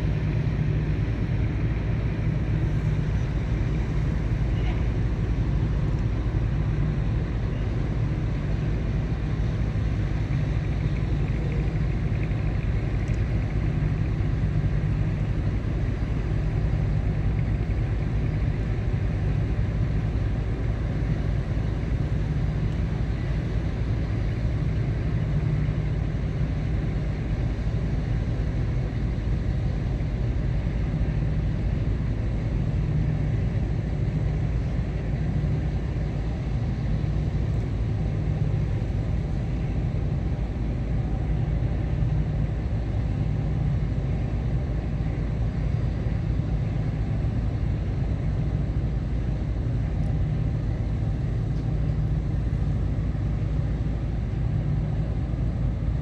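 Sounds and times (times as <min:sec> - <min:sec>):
ship engines droning: 0:00.0 - 0:56.0.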